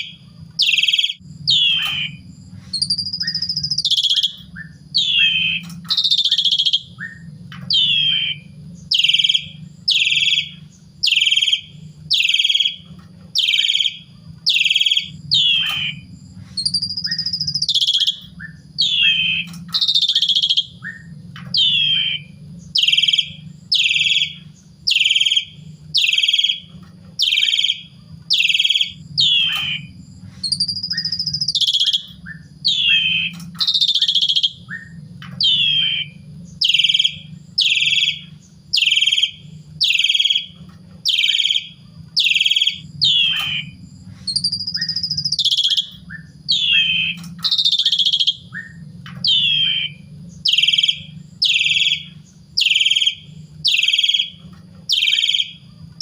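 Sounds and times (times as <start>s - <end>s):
starling harsh calls: 0.0s - 56.0s
steady low hum: 0.0s - 56.0s.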